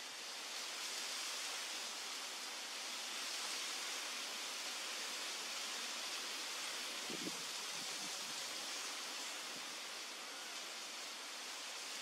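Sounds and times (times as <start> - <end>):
forest background hiss: 0.0 - 12.0.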